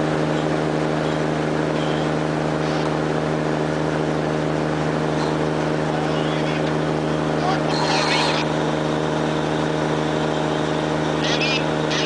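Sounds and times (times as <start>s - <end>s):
boat diesel engine droning: 0.0s - 12.0s.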